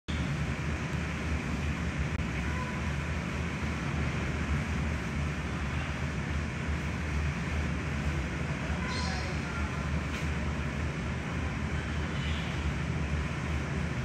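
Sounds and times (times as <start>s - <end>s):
low rumble with hiss: 0.1s - 14.0s.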